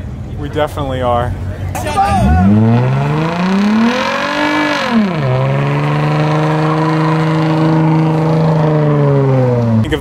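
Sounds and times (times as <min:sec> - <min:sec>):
car engine revving: 0:01.8 - 0:10.0.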